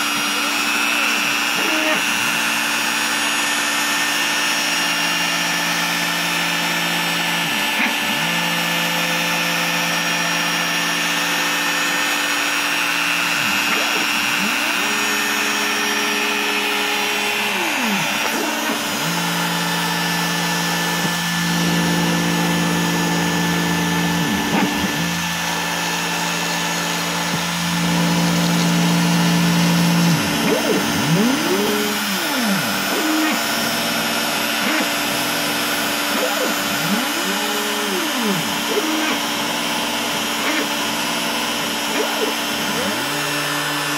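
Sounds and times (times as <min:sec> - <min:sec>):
router cutting foam board: 0:00.0 - 0:43.9
stepper motors whirring: 0:00.0 - 0:43.9.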